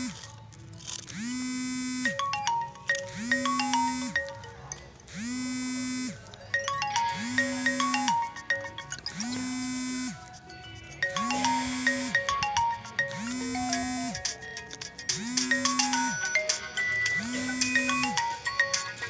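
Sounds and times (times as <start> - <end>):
looping electronic tune: 0.9 - 19.0.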